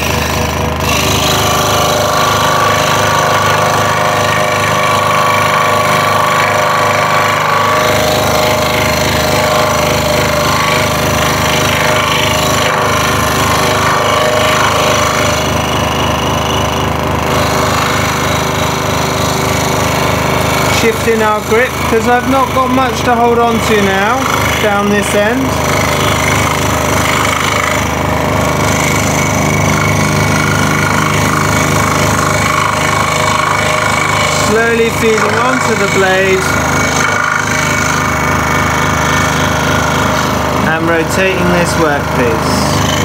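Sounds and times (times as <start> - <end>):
scroll saw cutting wood: 0.0 - 43.0.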